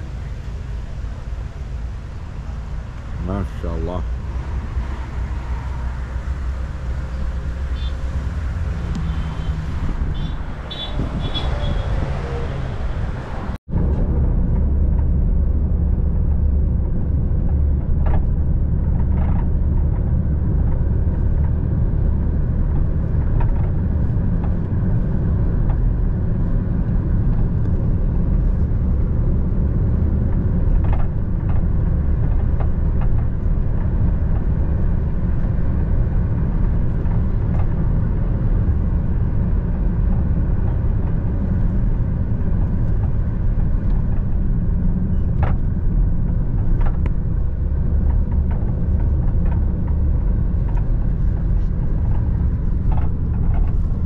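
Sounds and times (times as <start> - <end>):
low vehicle rumble: 0.0 - 54.0
outdoor background noise: 0.0 - 54.0.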